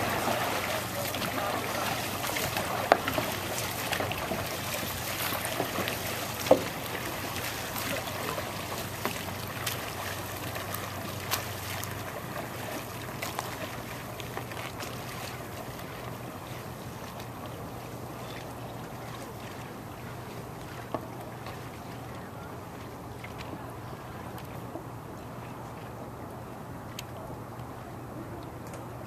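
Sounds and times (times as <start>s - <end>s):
paddles splashing in water: 0.0s - 28.3s.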